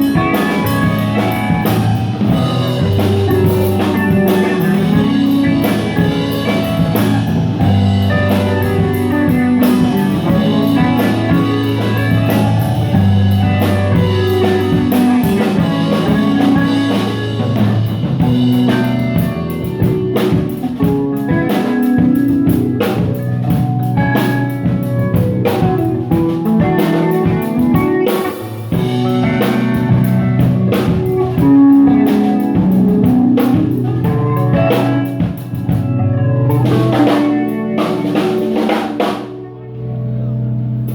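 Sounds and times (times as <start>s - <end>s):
drum kit playing: 0.0s - 40.9s
electric guitar playing: 0.0s - 40.9s.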